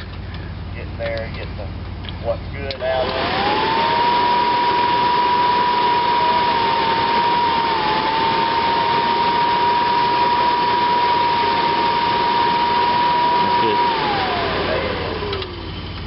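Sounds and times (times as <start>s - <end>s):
blower motor high whine: 2.5s - 16.0s.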